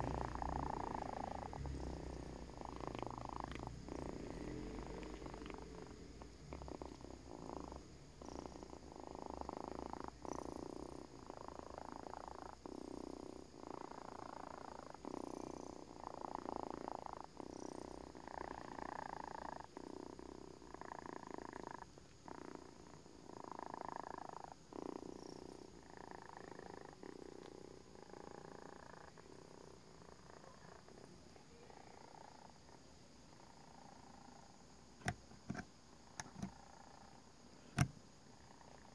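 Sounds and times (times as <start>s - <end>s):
pet snoring: 0.0s - 32.8s.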